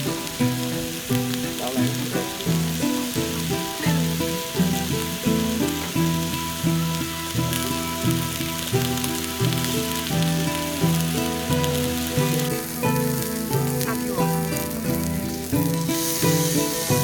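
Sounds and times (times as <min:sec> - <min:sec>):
background music with beat: 0:00.0 - 0:17.0
steady sizzling hiss: 0:00.0 - 0:17.0.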